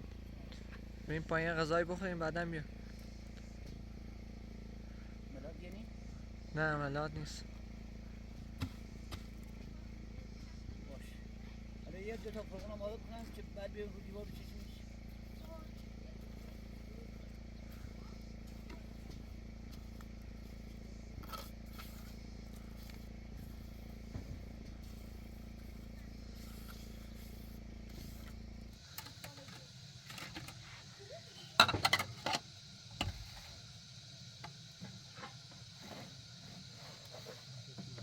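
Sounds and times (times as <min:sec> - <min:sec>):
low motor hum: 0:00.0 - 0:38.0.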